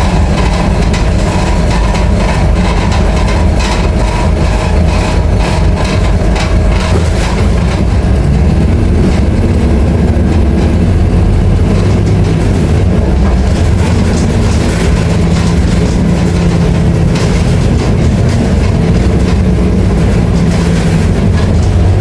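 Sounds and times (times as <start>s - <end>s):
bus engine low drone: 0.0s - 22.0s
clicks and rattles: 0.0s - 22.0s.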